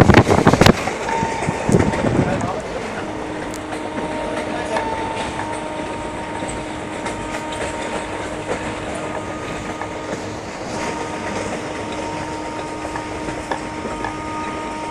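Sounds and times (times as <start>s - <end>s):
thin steady whine: 0.0s - 14.9s
train wheels rumbling on rail: 0.0s - 14.9s
wheels clicking over rail joints: 0.0s - 14.9s.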